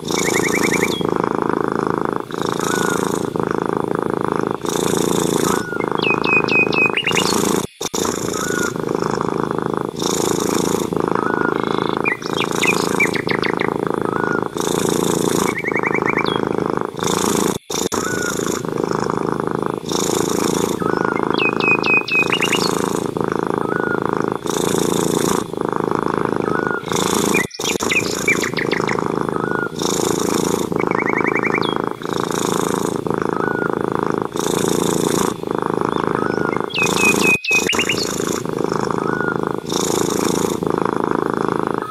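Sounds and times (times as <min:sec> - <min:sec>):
cat purring: 0:00.0 - 0:41.9
small birds chirping: 0:00.0 - 0:41.9.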